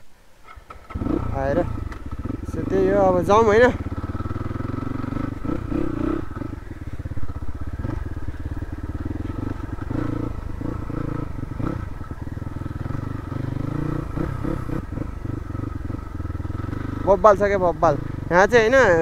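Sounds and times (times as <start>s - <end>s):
dirt bike engine running: 0.8s - 19.0s.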